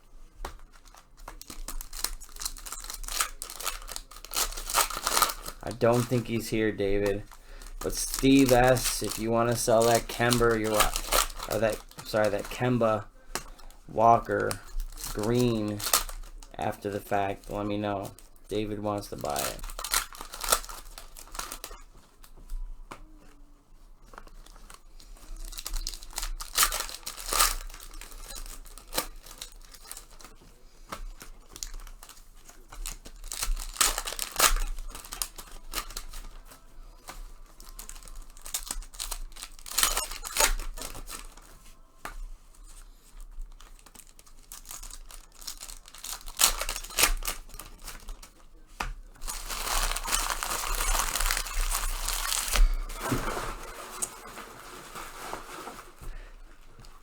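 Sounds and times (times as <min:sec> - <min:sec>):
foil wrappers tearing and crumpling: 0:00.0 - 0:57.0.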